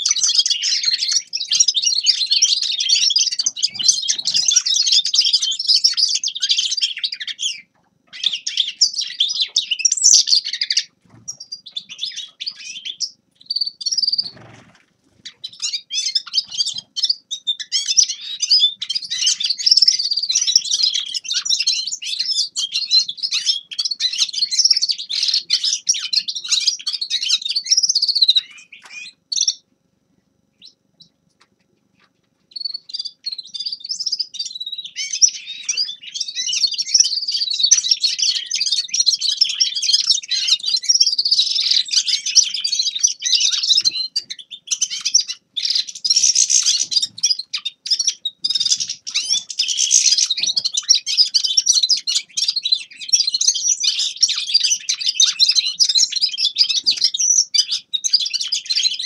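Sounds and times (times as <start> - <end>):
finch twittering song: 0.0 - 29.6, 30.6 - 59.0.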